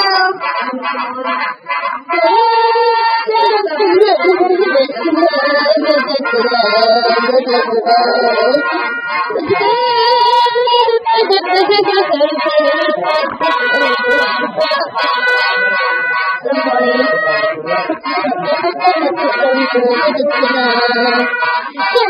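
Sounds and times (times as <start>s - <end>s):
voices singing over music: 0.0s - 22.0s.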